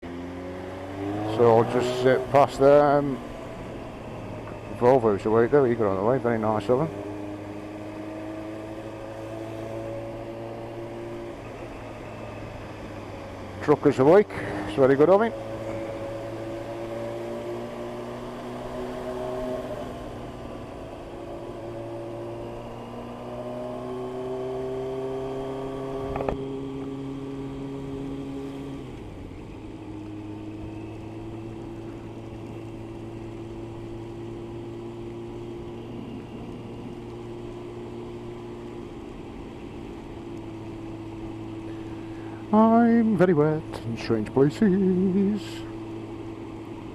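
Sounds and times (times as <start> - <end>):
motorcycle engine cruising: 0.0 - 46.9.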